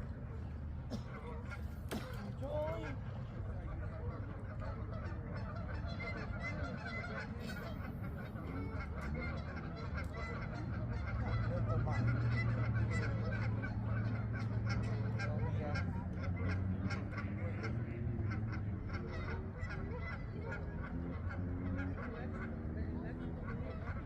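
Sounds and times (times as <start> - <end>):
geese honking: 0.9 - 24.0.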